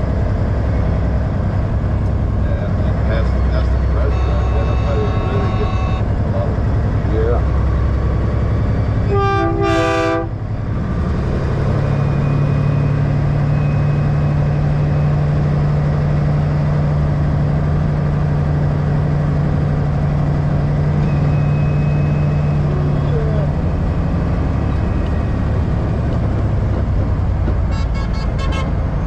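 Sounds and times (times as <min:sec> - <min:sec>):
diesel truck engine droning: 0:00.0 - 0:29.0.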